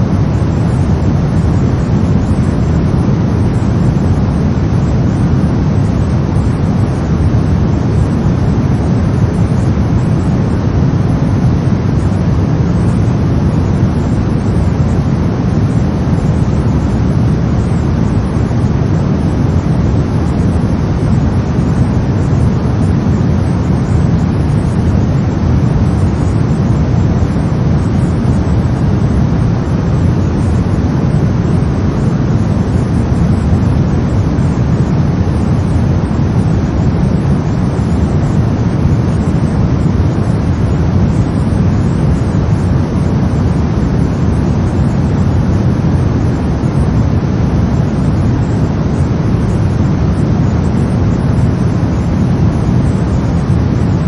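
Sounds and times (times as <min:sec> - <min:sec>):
brown noise rumbling hiss: 0:00.0 - 0:54.0.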